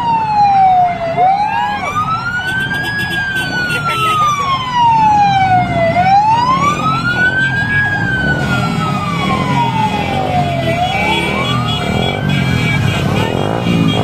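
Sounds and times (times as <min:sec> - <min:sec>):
emergency siren wailing: 0:00.0 - 0:14.0
vehicle engines rumbling: 0:00.0 - 0:14.0.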